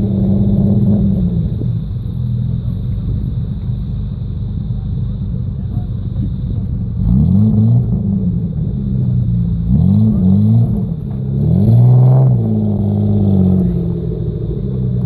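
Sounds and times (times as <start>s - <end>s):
off-road vehicle engine revving: 0.0s - 3.9s, 4.6s - 15.0s.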